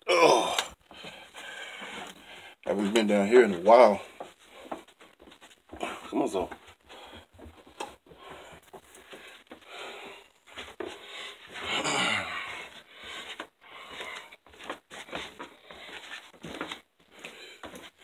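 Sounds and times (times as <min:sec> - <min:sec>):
heavy breathing and panting: 0:00.6 - 0:18.0.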